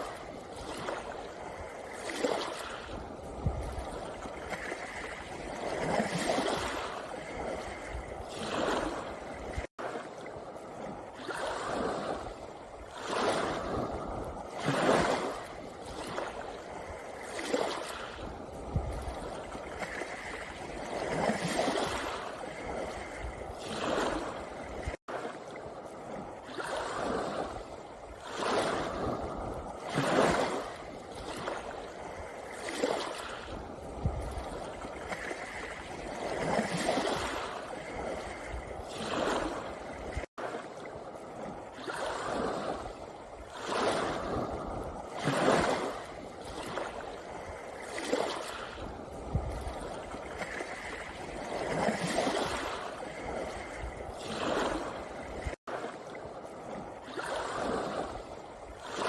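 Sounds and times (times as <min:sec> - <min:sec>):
waves washing over pebble beach: 0:00.0 - 0:59.0.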